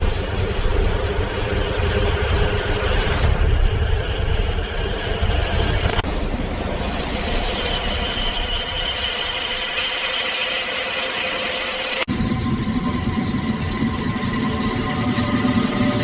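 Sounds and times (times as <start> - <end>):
high-speed train rumbling: 0.0 - 16.0.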